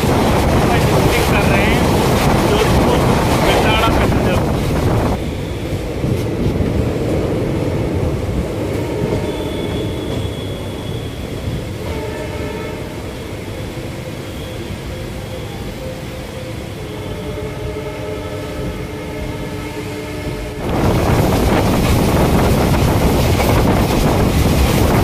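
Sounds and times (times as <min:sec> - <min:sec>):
train coach rumbling: 0:00.0 - 0:25.0.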